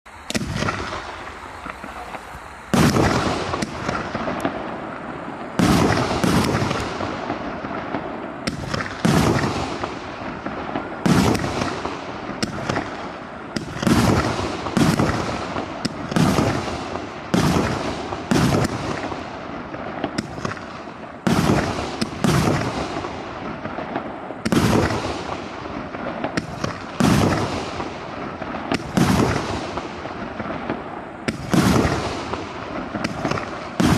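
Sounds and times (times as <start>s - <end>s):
firework bangs: 0.1s - 33.9s
firework hiss: 0.1s - 33.9s.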